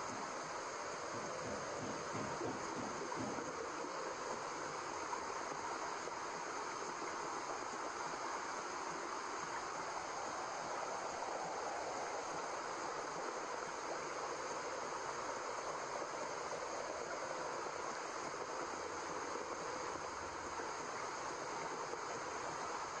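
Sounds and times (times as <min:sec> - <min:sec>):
steady white noise hiss: 0:00.0 - 0:23.0.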